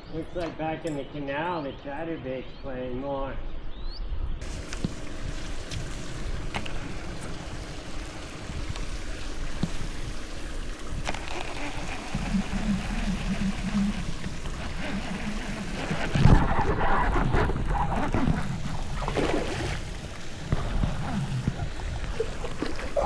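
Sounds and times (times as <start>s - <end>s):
wind rumbling on microphone: 3.4s - 23.0s
low pulsing hum: 4.4s - 23.0s
water noise: 4.4s - 23.0s.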